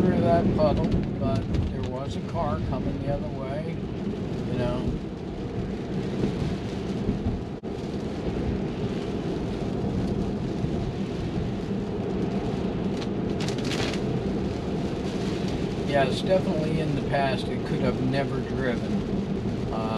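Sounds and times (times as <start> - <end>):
rain hitting glass: 0.0 - 19.9
tyres rumbling on wet road: 0.0 - 19.9.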